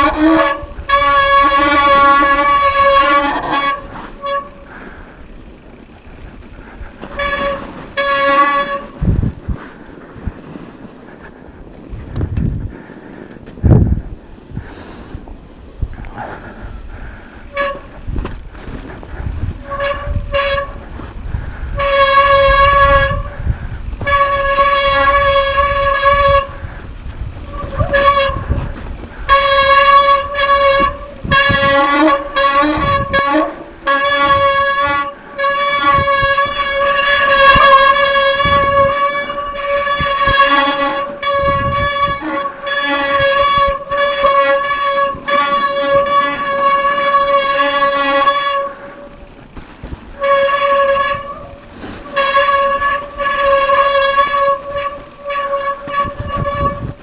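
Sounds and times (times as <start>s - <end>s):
disc brakes squealing: 0.0s - 9.5s, 17.5s - 57.0s.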